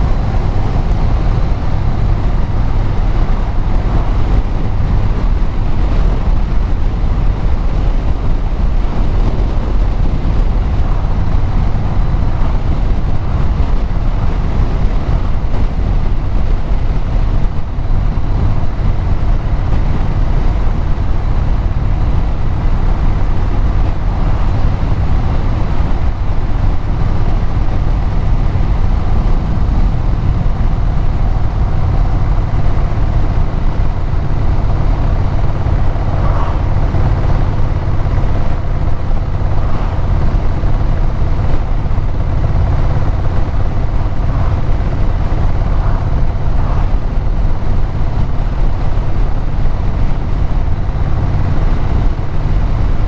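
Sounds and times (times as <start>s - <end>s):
road and wind noise: 0.0s - 53.0s
vehicle engine and exhaust: 0.0s - 53.0s.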